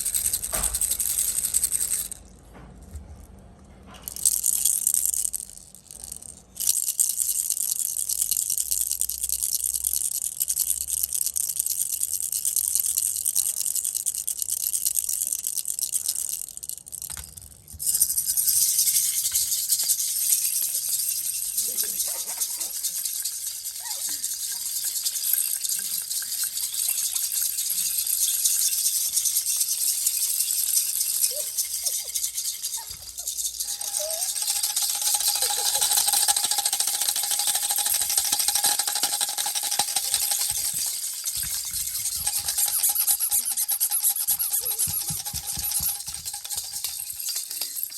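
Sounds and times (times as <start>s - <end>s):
baby's toy rattle shaken: 0.0s - 2.4s, 3.9s - 47.9s.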